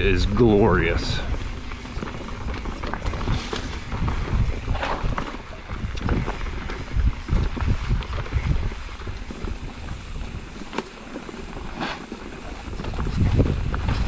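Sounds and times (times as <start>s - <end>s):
bike tyres humming on dirt: 0.0s - 14.0s
wind buffeting microphone: 0.0s - 14.0s
bike clicks and rattles: 0.5s - 14.0s.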